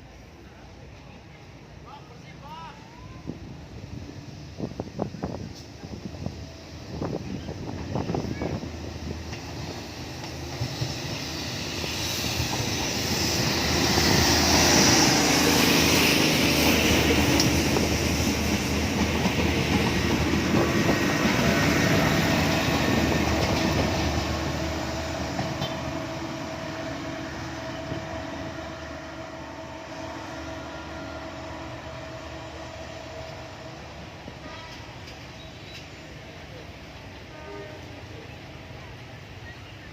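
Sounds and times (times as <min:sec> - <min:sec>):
train rumble and wheel clatter: 0:00.0 - 0:39.9.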